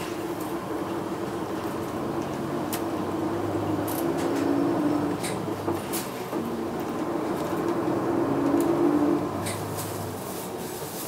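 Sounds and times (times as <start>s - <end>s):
bus diesel engine driving: 0.0s - 11.0s.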